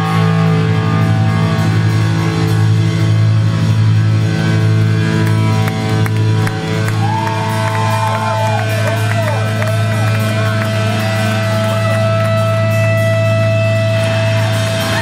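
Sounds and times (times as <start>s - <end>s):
rock band playing distorted: 0.0s - 15.0s.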